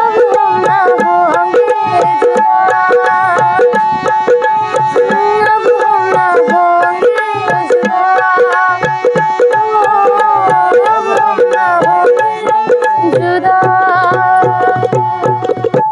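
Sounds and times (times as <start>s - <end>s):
hand drum quick rhythm: 0.0s - 15.9s
sliding melodic instrument: 0.0s - 15.9s.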